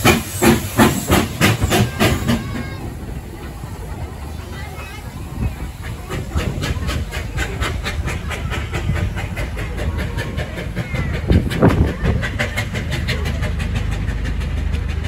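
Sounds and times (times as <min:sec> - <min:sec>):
steam locomotive exhaust chuffing: 0:00.0 - 0:15.0.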